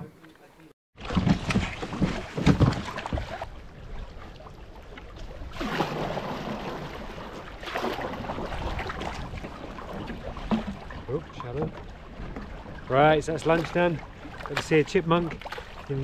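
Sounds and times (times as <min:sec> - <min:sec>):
water washing along canoe hull: 0:01.0 - 0:16.0.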